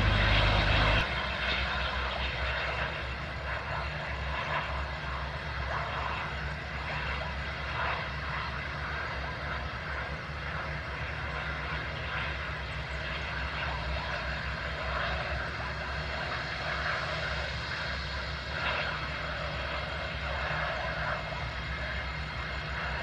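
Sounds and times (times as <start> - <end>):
jet engines running steadily: 0.0 - 23.0.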